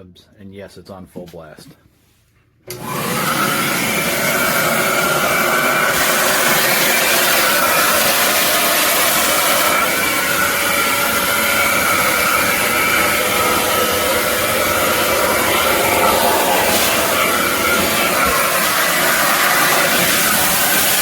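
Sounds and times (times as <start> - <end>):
vacuum cleaner running: 2.7 - 21.0.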